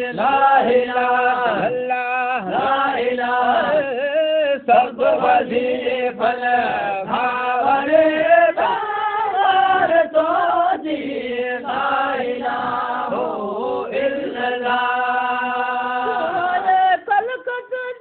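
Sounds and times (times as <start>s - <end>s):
voices chanting devotional song: 0.0s - 18.0s.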